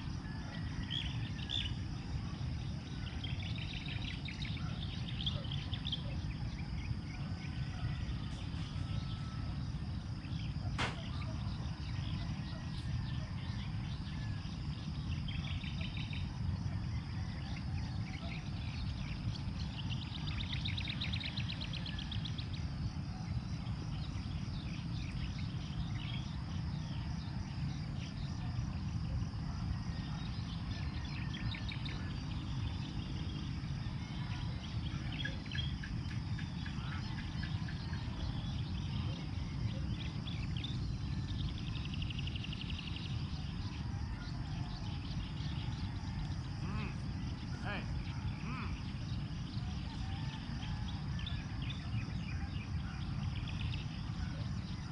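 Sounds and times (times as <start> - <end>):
birds chirping: 0.0 - 54.9
insects buzzing: 0.0 - 54.9
steady low rumble: 0.0 - 54.9.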